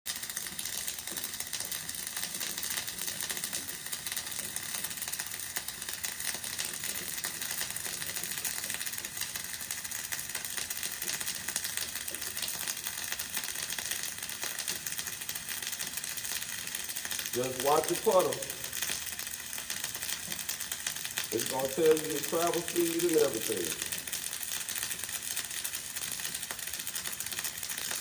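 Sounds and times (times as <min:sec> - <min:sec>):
arc welding crackle: 0:00.1 - 0:28.0.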